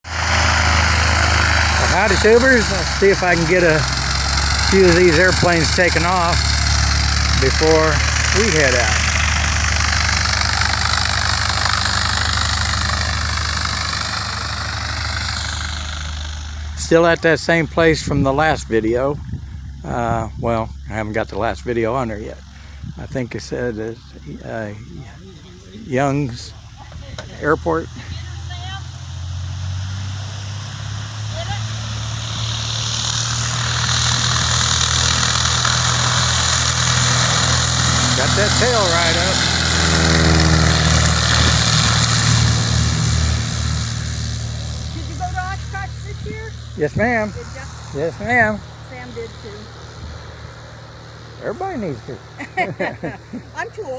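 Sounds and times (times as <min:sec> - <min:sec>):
aircraft piston engine running: 0:00.0 - 0:53.9.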